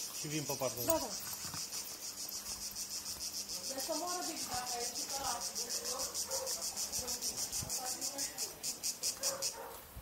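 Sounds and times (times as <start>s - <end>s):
cicadas pulsing chorus: 0.0s - 9.8s.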